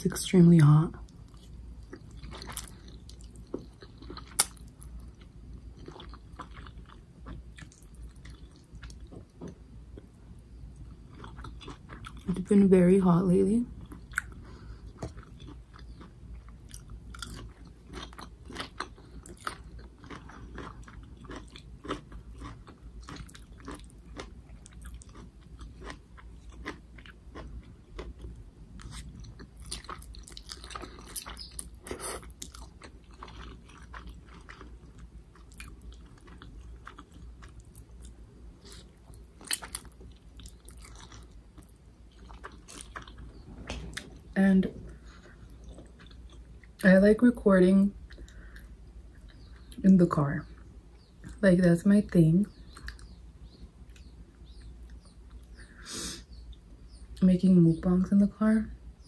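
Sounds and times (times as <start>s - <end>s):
steady low hum: 0.0s - 59.0s
chewing crunchy food: 1.0s - 12.6s, 13.7s - 46.9s, 47.9s - 51.4s, 52.5s - 57.2s.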